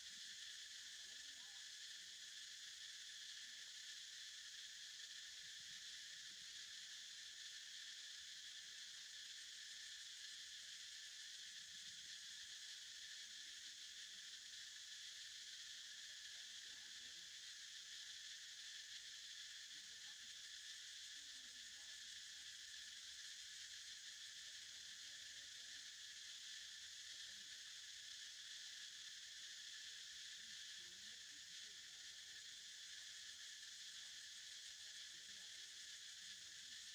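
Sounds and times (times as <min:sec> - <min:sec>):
insect chorus buzzing: 0:00.0 - 0:36.9.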